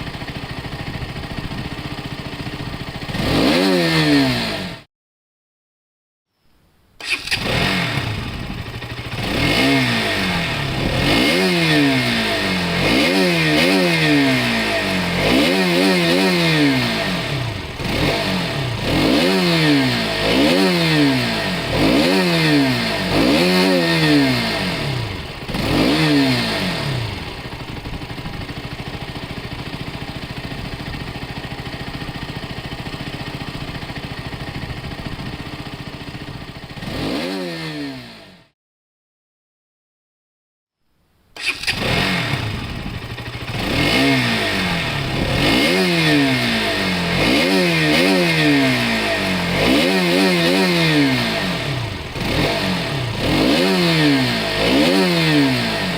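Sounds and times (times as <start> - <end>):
motorcycle engine revving and idling: 0.0 - 4.9, 7.0 - 38.6, 41.4 - 55.9.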